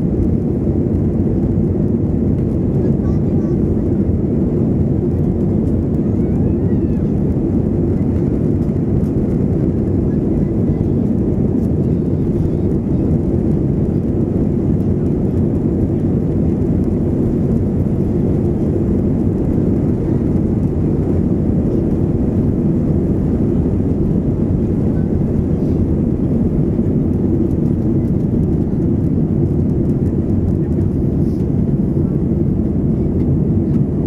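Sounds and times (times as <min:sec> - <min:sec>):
jet engines and wheels rumbling: 0:00.0 - 0:34.0.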